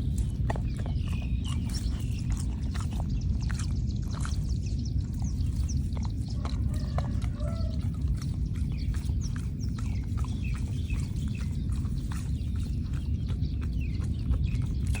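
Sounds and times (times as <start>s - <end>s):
animal tearing and chewing grass: 0.0s - 15.0s
low rumble: 0.0s - 15.0s.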